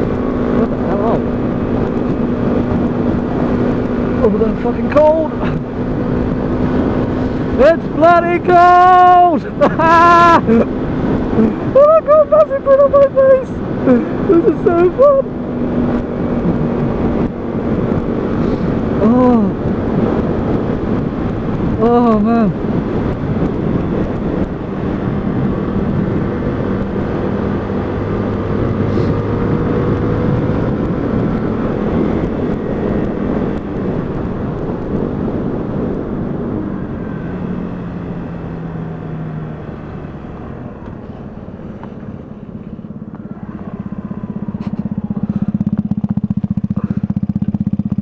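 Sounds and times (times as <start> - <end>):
motorcycle engine: 0.0 - 48.0
wind rush: 0.0 - 48.0.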